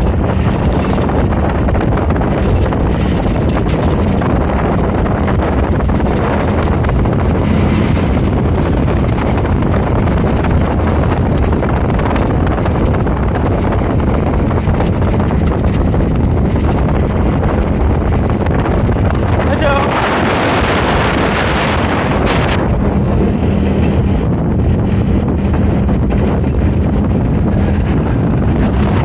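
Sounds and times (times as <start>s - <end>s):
low engine drone: 0.0s - 29.0s
wind rushing over microphone: 0.0s - 29.0s.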